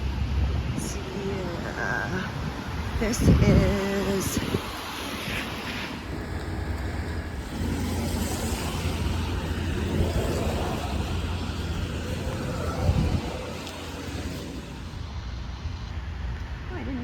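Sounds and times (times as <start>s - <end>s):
passing vehicles rumbling: 0.0s - 16.7s.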